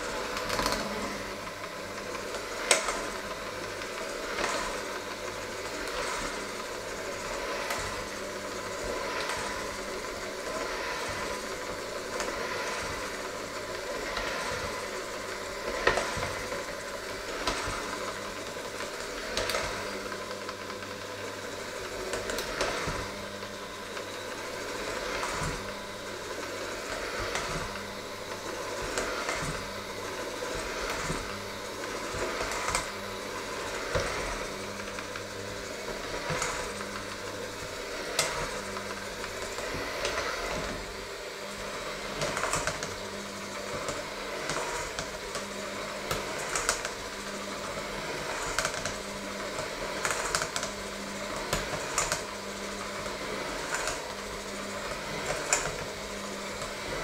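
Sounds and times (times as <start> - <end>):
electric hand mixer running: 0.0 - 57.0.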